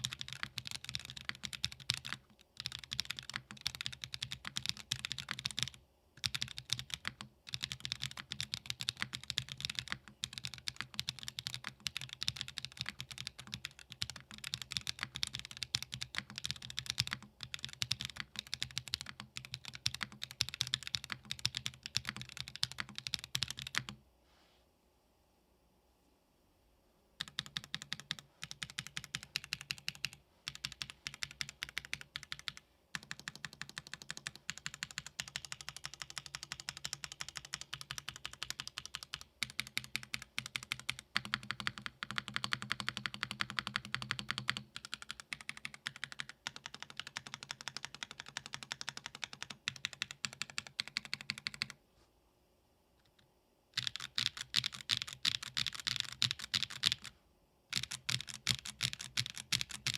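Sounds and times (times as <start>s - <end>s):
fast typing on mechanical keyboard: 0.0s - 24.0s, 27.2s - 51.8s, 53.8s - 59.9s.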